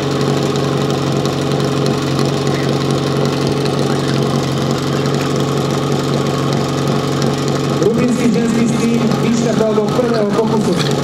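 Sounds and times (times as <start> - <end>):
pump engine idling: 0.0 - 11.0.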